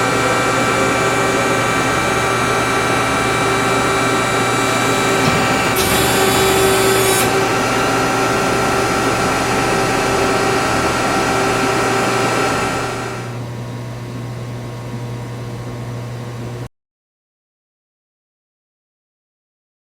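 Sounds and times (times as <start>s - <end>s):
hydraulic unit humming: 0.0s - 16.7s.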